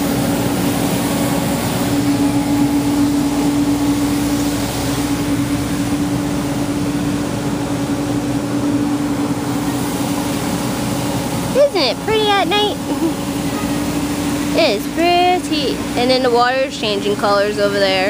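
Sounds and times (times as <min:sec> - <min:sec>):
constant rushing noise: 0:00.0 - 0:18.0
mechanical hum: 0:00.0 - 0:18.0.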